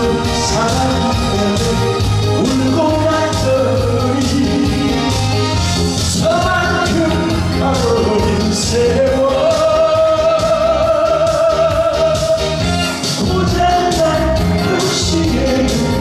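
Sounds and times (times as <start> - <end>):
man singing into a microphone: 0.0 - 5.4, 6.0 - 16.0
backing track with steady beat: 0.0 - 16.0.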